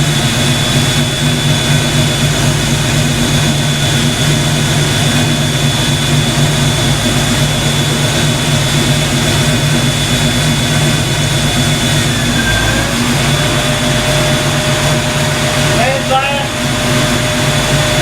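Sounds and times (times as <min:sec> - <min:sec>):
electric cooling fans rushing: 0:00.0 - 0:18.0
thin steady whine: 0:00.0 - 0:18.0.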